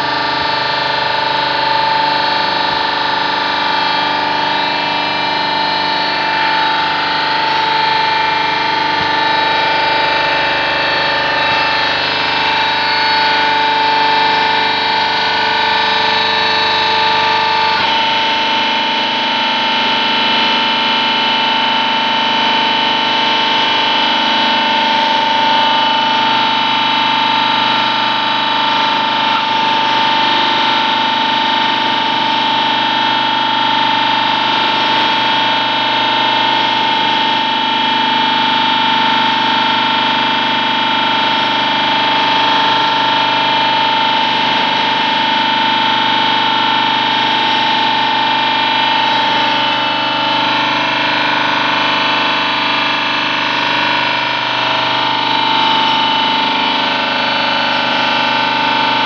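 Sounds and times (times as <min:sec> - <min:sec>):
machine whine and hum: 0:00.0 - 0:59.0.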